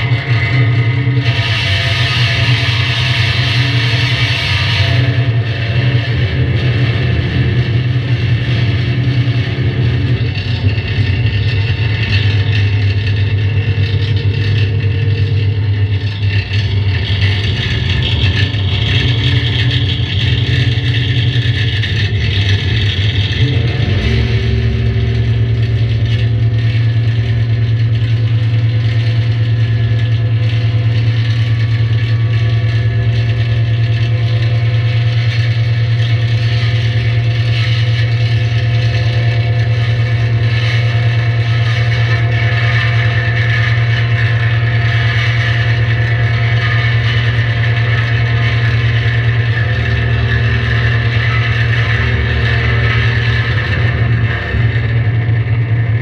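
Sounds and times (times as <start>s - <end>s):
electric guitar drone through effects: 0.0s - 56.0s.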